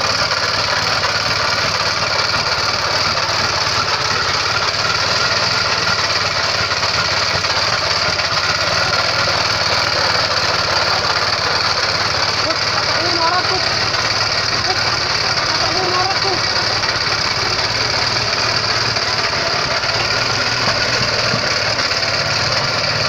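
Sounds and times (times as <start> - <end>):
tamping rammer pounding ground: 0.0 - 23.0.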